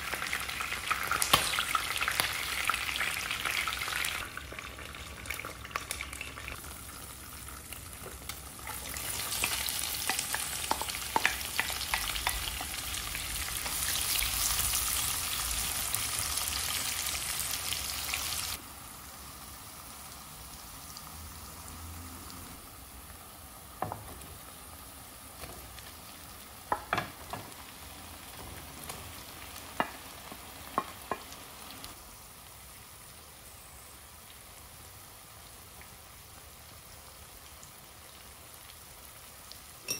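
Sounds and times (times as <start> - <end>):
food sizzling in pan: 0.0 - 39.9.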